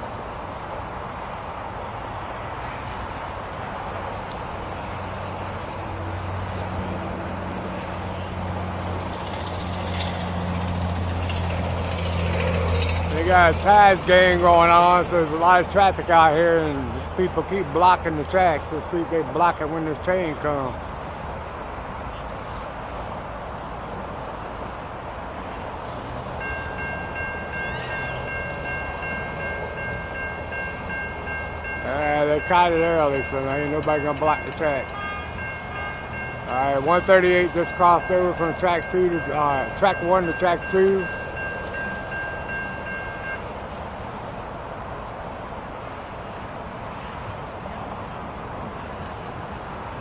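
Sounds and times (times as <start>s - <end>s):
traffic noise: 0.0s - 50.0s
train rumbling past: 0.0s - 50.0s
crossing warning bell ringing: 3.5s - 23.1s, 25.4s - 47.4s.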